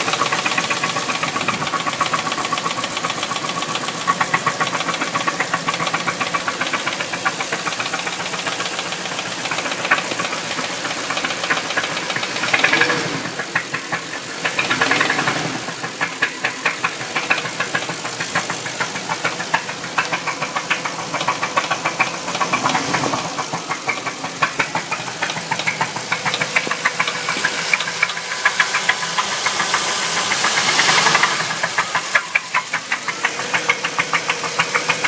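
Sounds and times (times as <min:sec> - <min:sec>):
car engine running: 0:00.0 - 0:35.0
engine ticking knock: 0:00.0 - 0:35.0.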